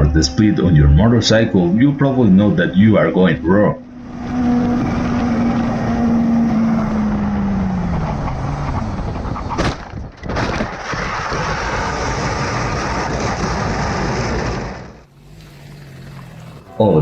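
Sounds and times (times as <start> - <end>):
motorcycle engine: 0.0 - 10.2, 12.5 - 17.0
wind and road noise: 0.0 - 17.0.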